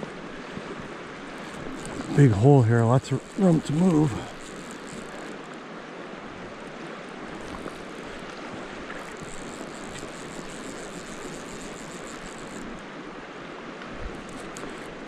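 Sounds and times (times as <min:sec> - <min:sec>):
fast-flowing creek rushing: 0:00.0 - 0:14.1.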